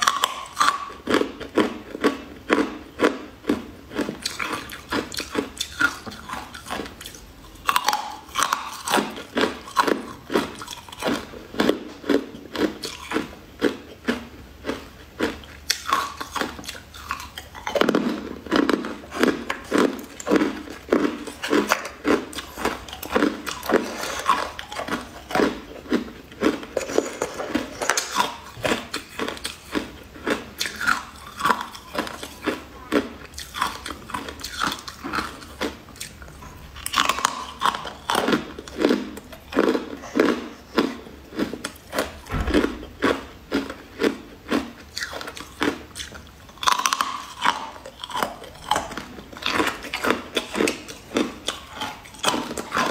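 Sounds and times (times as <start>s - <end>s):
crunchy biting and chewing: 0.0s - 52.9s.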